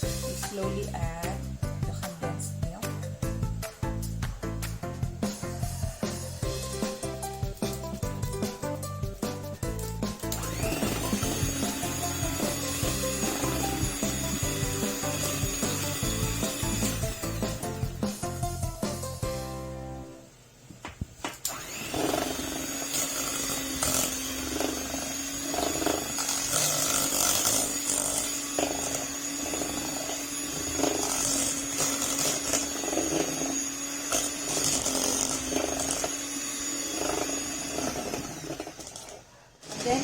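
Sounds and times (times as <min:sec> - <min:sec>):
electric mixer beating: 0:00.0 - 0:19.2, 0:21.4 - 0:40.0.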